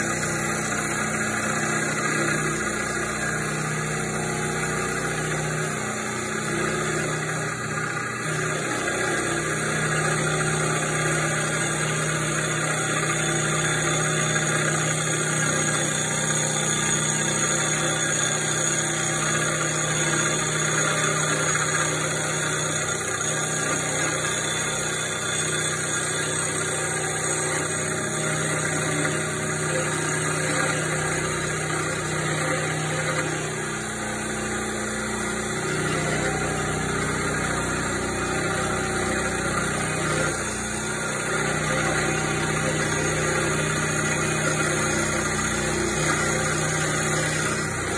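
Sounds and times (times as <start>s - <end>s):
drill press motor hum: 0.0s - 47.9s
metal cutting rasp: 0.0s - 47.9s.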